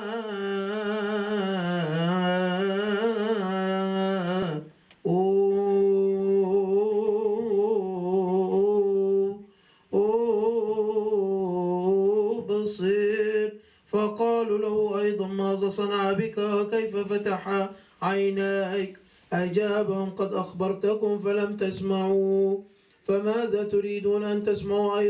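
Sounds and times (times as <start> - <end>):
man chanting: 0.0 - 9.4, 10.0 - 25.0.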